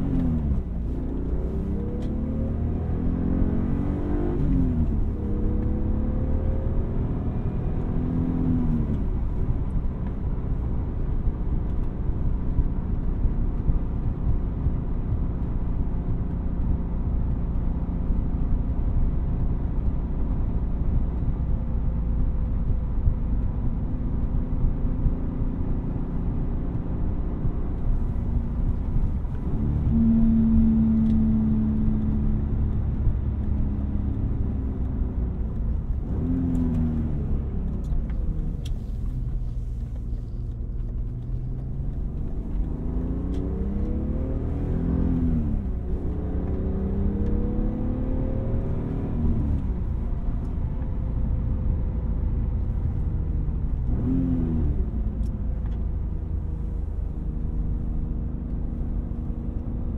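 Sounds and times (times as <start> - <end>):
car engine and exhaust revving: 0.0 - 59.9
road rumble: 0.0 - 59.9.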